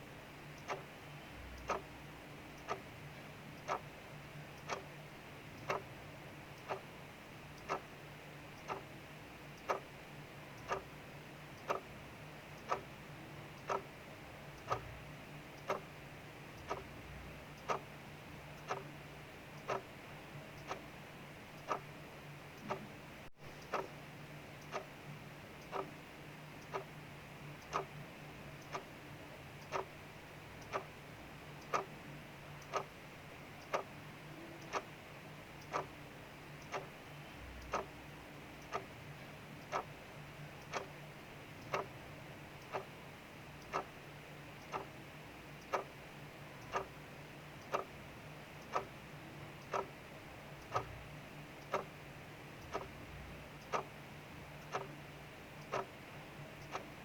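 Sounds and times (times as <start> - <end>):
clock ticking: 0.4 - 57.0.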